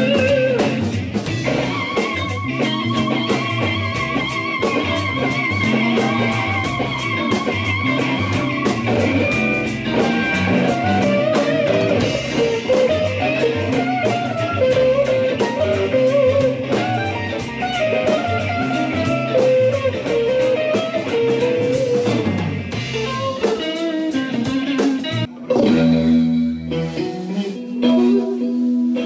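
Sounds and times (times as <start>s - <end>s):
drum kit: 0.0s - 29.0s
electric bass: 0.0s - 29.0s
electric guitars: 0.0s - 29.0s.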